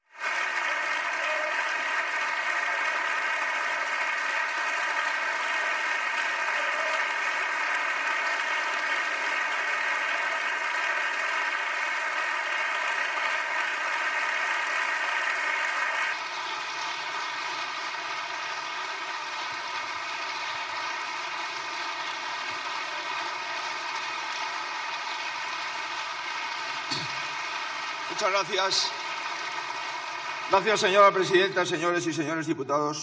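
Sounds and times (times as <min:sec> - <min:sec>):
crowd applauding: 0:00.0 - 0:32.8.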